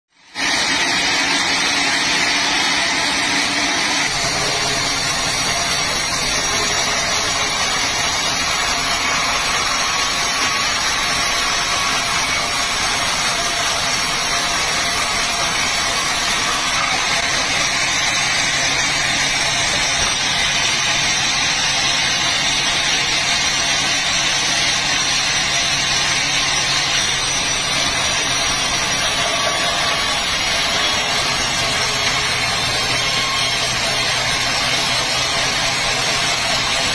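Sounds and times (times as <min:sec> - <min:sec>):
band saw cutting log: 0:00.3 - 0:36.9.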